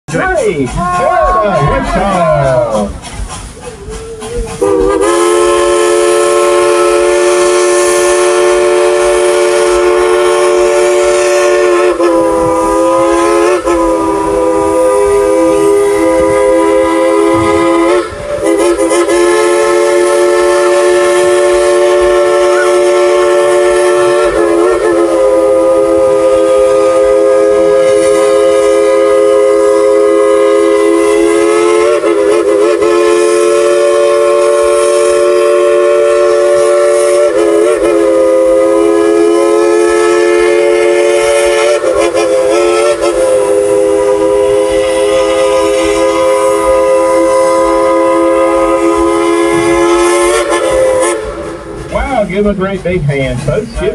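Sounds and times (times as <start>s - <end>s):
steam locomotive whistle: 0.3s - 52.0s.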